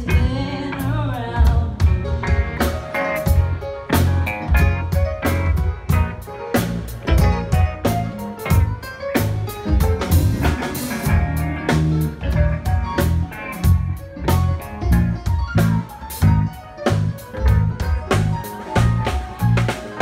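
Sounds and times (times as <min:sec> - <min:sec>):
drum kit beat: 0:00.0 - 0:20.0
electric bass line: 0:00.0 - 0:20.0
guitar: 0:00.0 - 0:20.0
live band playing: 0:00.0 - 0:20.0.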